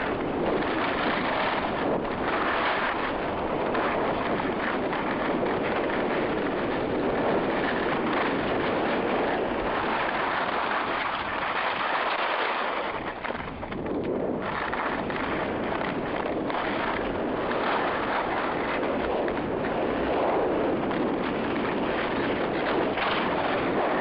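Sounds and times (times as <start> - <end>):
skis scraping over snow: 0.0 - 24.0
wind rushing over microphone: 0.0 - 24.0.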